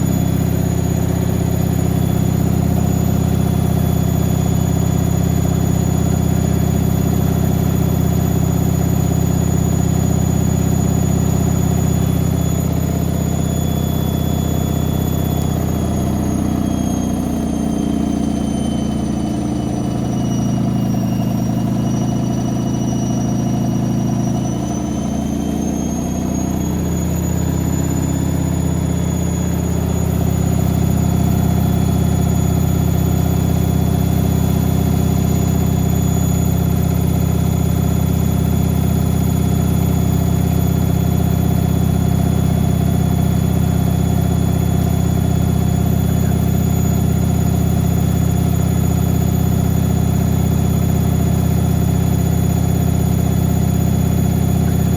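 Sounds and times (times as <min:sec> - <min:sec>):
washing machine drum whirring: 0:00.0 - 0:54.9.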